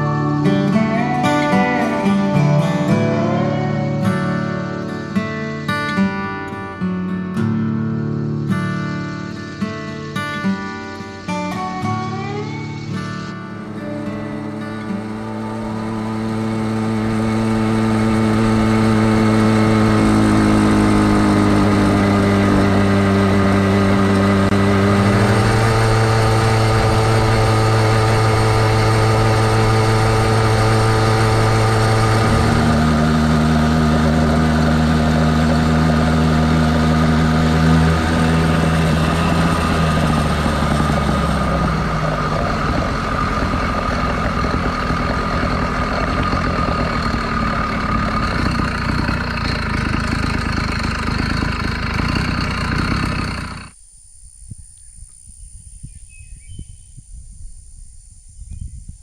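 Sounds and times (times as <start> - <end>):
two-stroke engine running: 0.0 - 53.8.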